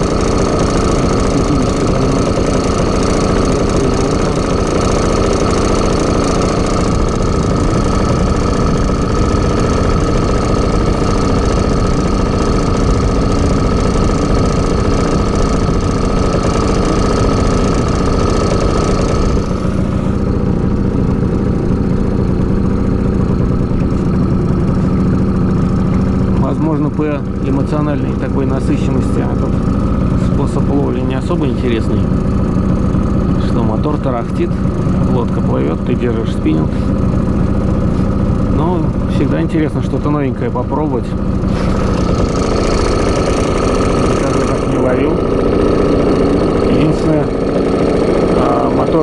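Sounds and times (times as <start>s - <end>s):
outboard motor chugging: 0.0s - 49.0s.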